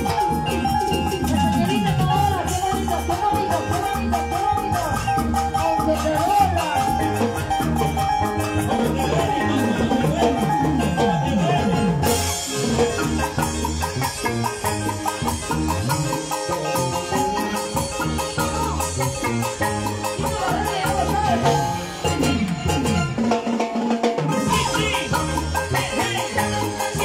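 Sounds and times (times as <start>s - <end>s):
plucked harp notes: 0.0s - 23.4s
bass line: 0.0s - 23.5s, 24.2s - 27.0s
drums: 0.0s - 27.0s.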